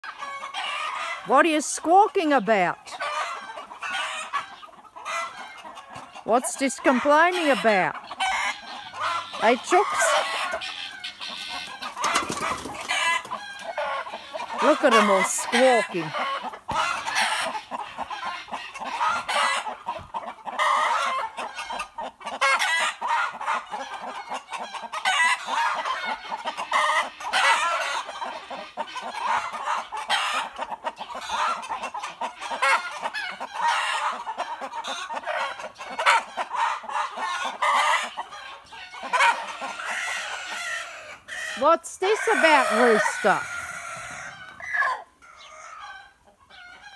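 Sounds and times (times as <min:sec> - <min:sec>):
chickens squawking and clucking: 0:00.0 - 0:46.9
roosters crowing: 0:00.0 - 0:46.9.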